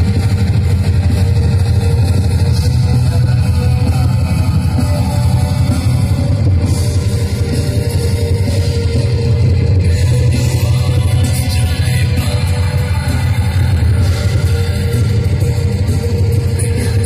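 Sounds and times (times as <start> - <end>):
drum kit: 0.0 - 17.0
electric guitar: 0.0 - 17.0
heavy bass: 0.0 - 17.0.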